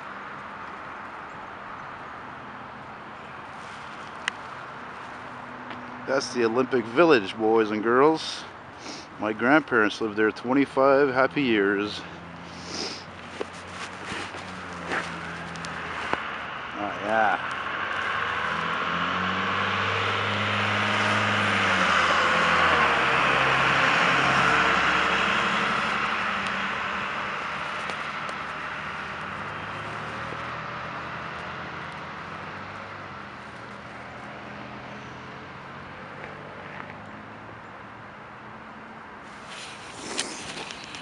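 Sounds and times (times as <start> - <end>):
city traffic: 0.0 - 41.0
bus engine driving past: 1.2 - 41.0.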